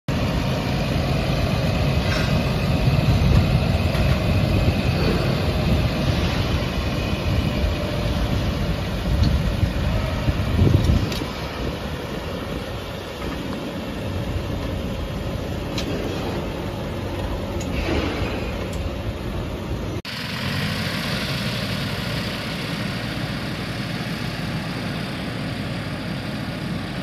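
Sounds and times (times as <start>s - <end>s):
tractor diesel engine rumble: 0.1s - 27.0s.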